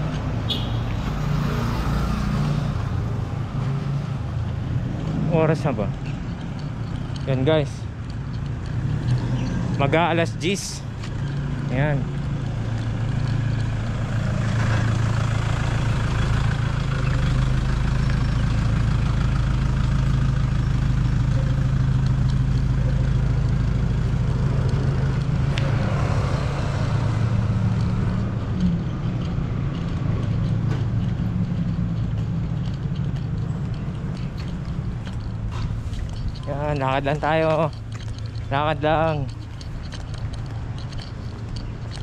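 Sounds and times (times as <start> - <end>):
road noise: 0.0 - 42.0
vehicle engine humming: 0.0 - 42.0.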